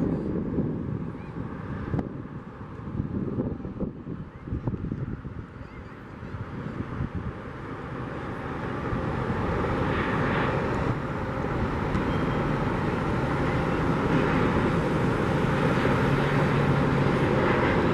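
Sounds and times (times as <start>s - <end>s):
jet engines rushing: 0.0s - 17.9s.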